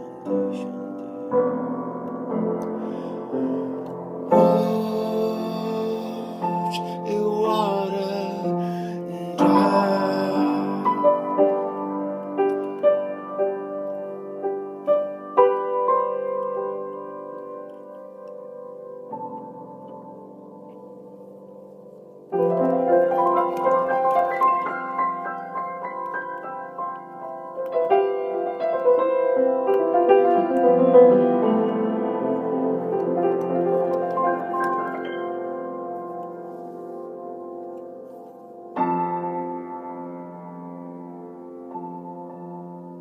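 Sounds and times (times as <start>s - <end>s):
slow piano music: 0.0s - 43.0s.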